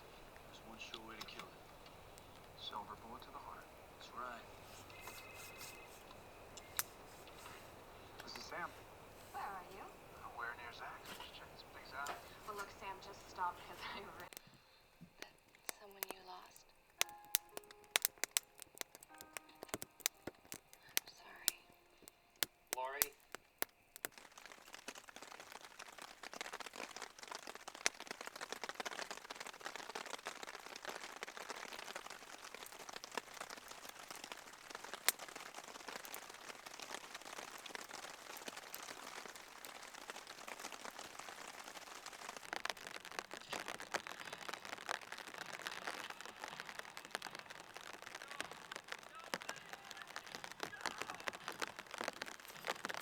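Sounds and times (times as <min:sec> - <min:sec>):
light rain pattering: 0:00.0 - 0:53.0.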